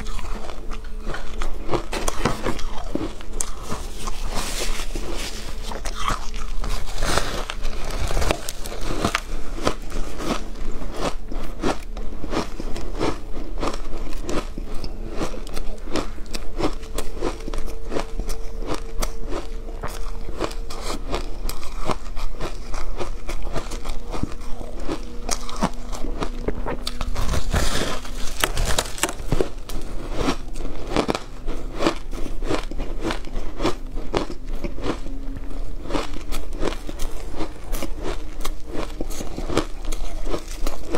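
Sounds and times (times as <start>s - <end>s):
crunchy chewing of shaved ice: 0.0s - 40.9s.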